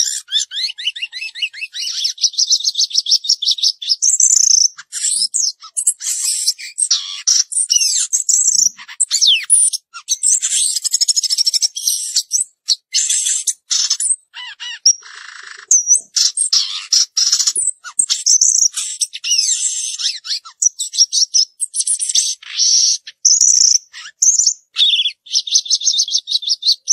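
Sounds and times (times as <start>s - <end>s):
songbird singing: 0.0s - 26.9s.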